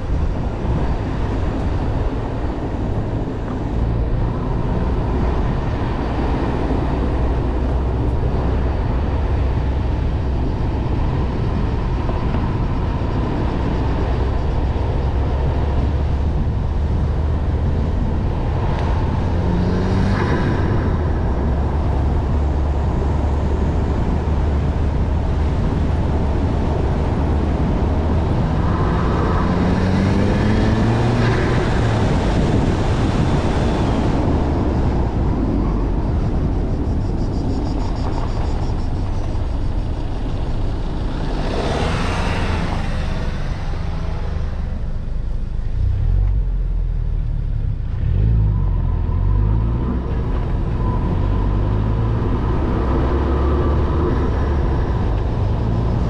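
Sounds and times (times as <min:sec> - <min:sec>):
car engine droning: 0:00.0 - 0:56.0
tyre and wind noise: 0:00.0 - 0:56.0.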